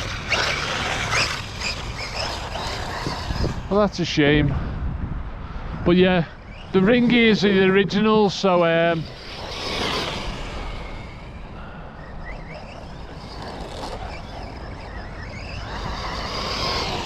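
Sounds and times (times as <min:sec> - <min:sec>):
remote control car running: 0:00.0 - 0:04.4, 0:06.0 - 0:17.0.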